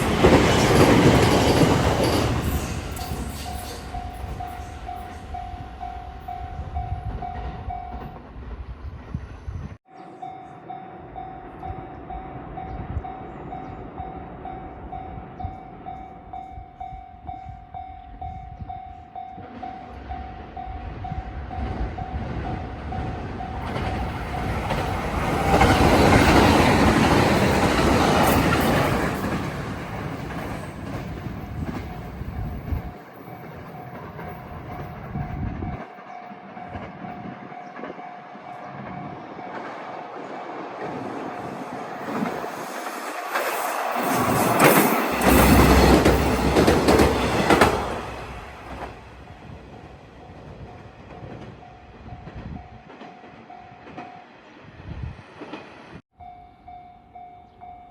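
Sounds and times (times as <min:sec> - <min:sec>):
train rumble and wheel noise: 0:00.0 - 0:57.9.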